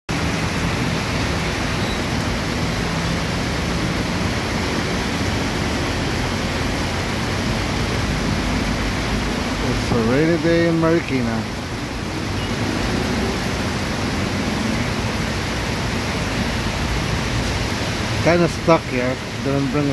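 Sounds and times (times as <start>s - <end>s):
heavy rain on a street: 0.1s - 19.9s
traffic on a wet road: 0.1s - 19.9s.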